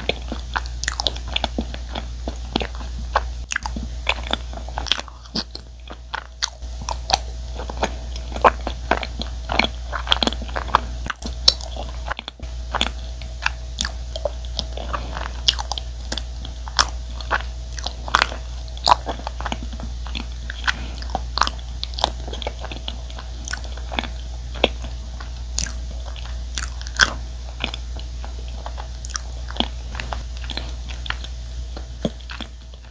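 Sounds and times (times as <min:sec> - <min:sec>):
chewing with mouth clicks: 0:00.0 - 0:32.9
low steady hum: 0:00.0 - 0:32.9.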